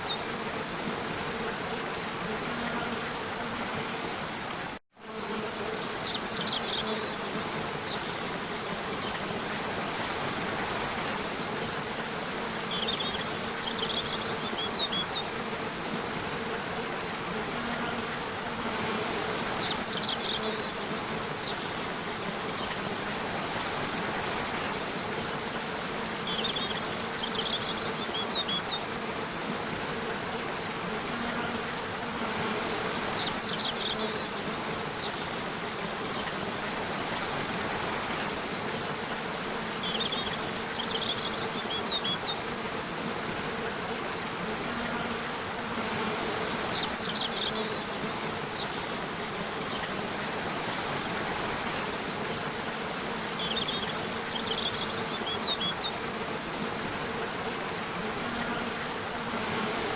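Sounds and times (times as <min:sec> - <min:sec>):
insect buzzing: 0:00.0 - 0:59.9
stream water flowing: 0:05.8 - 0:59.9.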